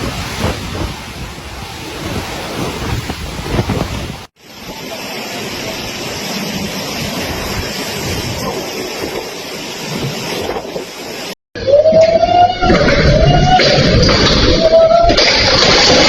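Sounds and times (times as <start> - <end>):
rain: 0.0 - 11.4, 12.8 - 16.0
storm wind: 0.0 - 16.0.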